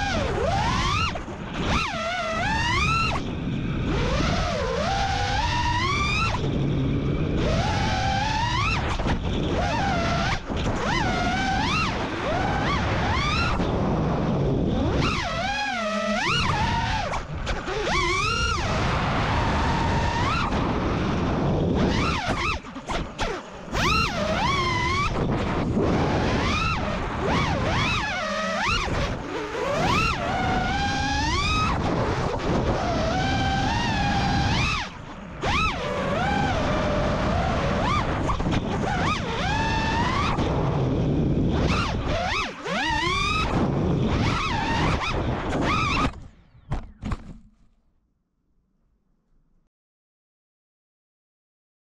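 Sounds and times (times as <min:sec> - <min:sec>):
quadcopter motors whining: 0:00.0 - 0:47.2
wind rushing over microphone: 0:00.0 - 0:47.4.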